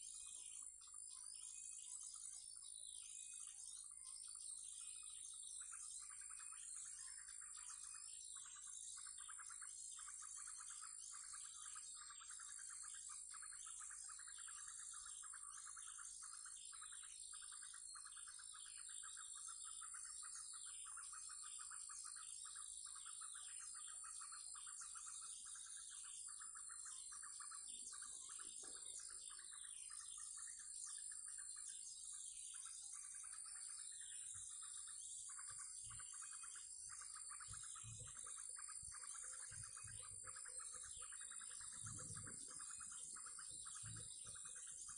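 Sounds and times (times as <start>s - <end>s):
songbirds chirping and twittering: 0.0s - 44.9s
rapid pulsing bird trill: 3.4s - 44.9s.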